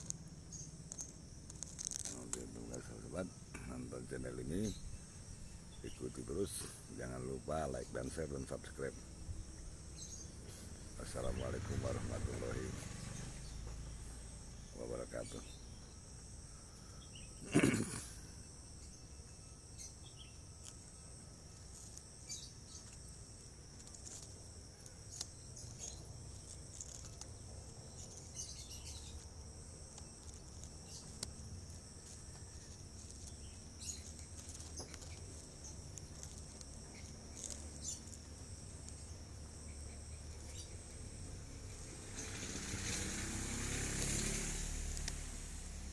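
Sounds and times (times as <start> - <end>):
high-pitched insect drone: 0.0 - 45.9.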